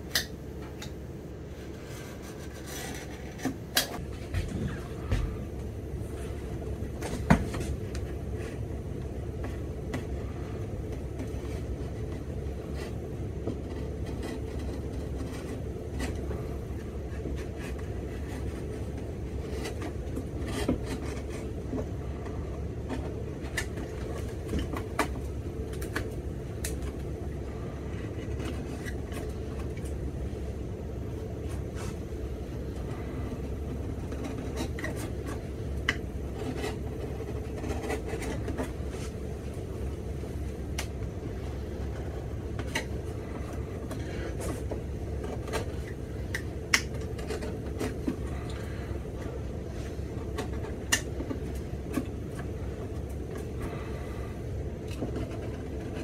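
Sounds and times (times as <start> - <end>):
shop machinery hum: 0.0 - 56.0.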